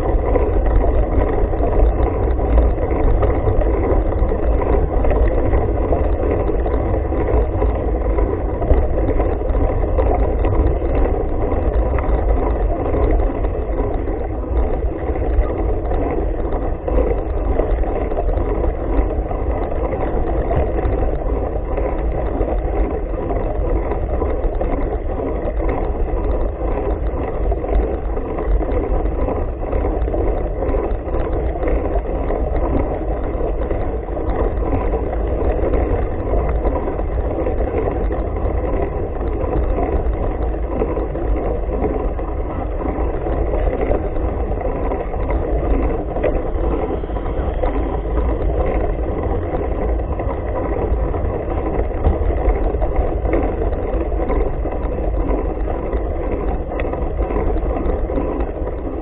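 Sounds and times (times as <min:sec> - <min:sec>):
bike tyres rolling: 0:00.0 - 0:59.0
wind rumble: 0:00.0 - 0:59.0.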